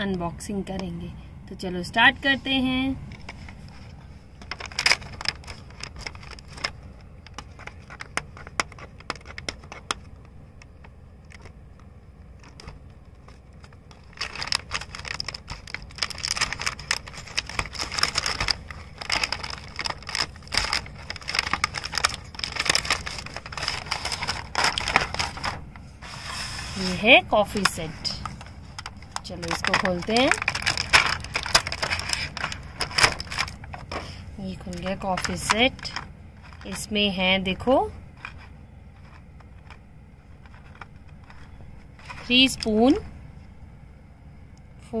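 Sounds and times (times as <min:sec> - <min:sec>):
plastic packaging crinkling: 0:03.1 - 0:36.9, 0:38.1 - 0:43.0.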